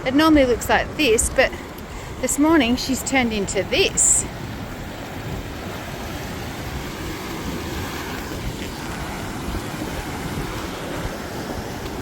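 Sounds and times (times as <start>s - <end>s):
wind buffeting microphone: 0.0s - 12.0s
water rushing into surf: 0.2s - 12.0s.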